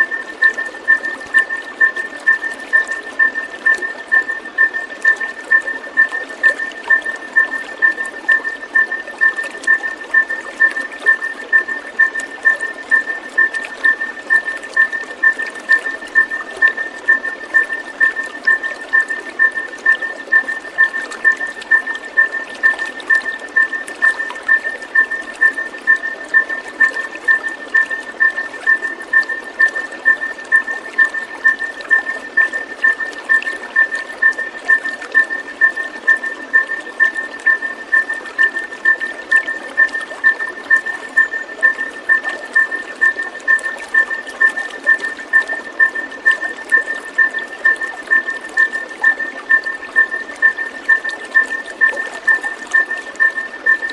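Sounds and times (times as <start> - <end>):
running water: 0.0 - 53.9.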